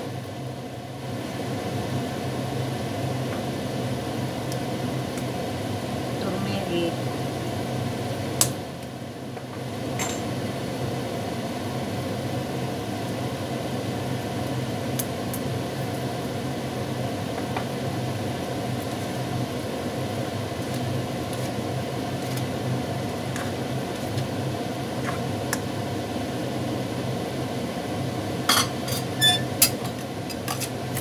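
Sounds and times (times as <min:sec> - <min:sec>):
appliance hum with hiss: 0:00.0 - 0:31.0.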